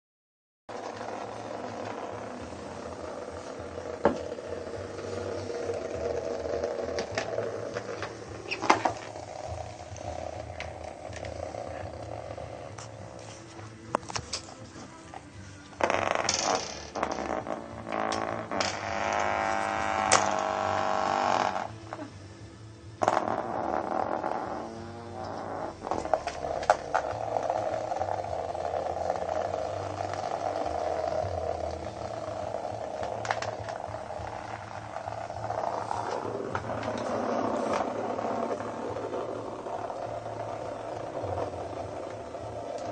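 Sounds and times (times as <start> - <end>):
vibrating bug toys buzzing: 0.7 - 14.2, 15.0 - 42.9.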